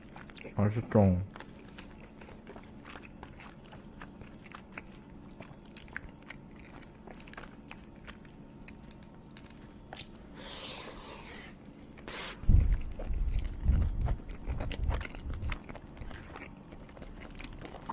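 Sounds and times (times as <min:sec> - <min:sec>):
person chewing food: 0:00.0 - 0:17.9.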